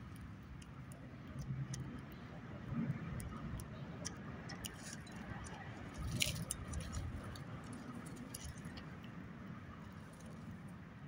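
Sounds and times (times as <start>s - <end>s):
birds pecking seeds: 0.0s - 10.7s.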